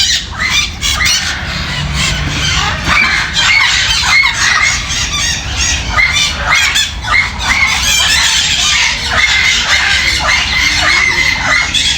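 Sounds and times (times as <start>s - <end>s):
parrots squawking and squealing: 0.0s - 11.9s.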